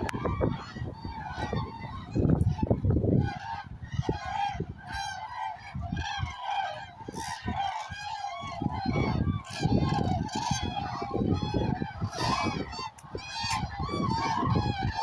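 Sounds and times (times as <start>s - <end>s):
cranes bugling calls: 0.0s - 2.7s, 3.3s - 15.0s.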